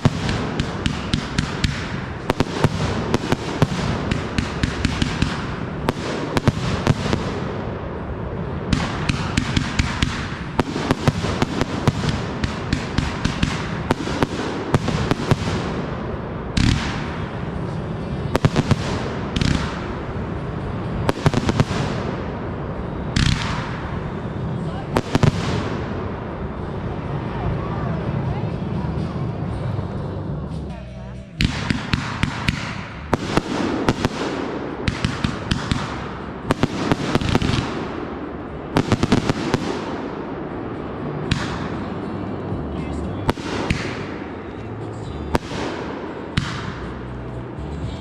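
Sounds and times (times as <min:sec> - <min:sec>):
loud firework booms: 0:00.0 - 0:26.8, 0:31.4 - 0:42.2, 0:43.2 - 0:44.6
fireworks bangs and crackling: 0:00.0 - 0:30.1, 0:31.4 - 0:48.0.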